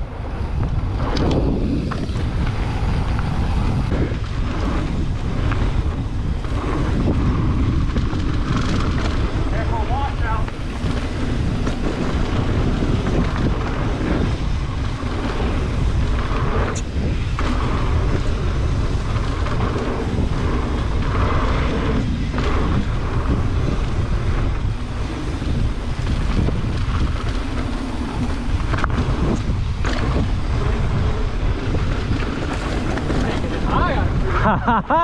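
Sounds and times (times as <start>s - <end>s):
bike rolling on dirt trail: 0.0s - 35.0s
wind buffeting microphone: 0.0s - 35.0s.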